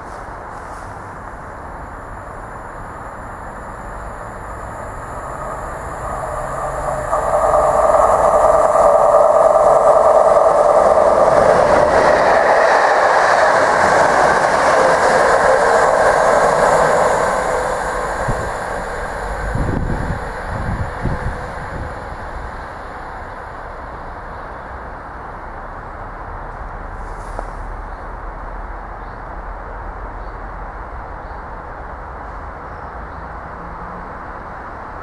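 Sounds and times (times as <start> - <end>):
diesel locomotive passing: 0.0 - 35.0.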